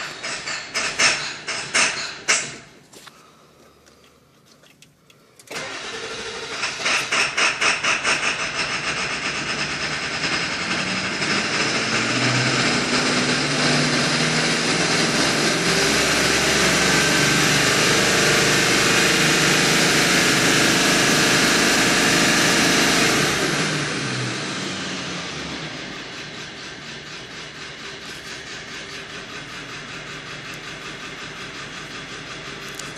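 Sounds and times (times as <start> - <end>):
diesel engine cranking on starter: 5.4 - 32.9
diesel engine running: 5.5 - 32.9.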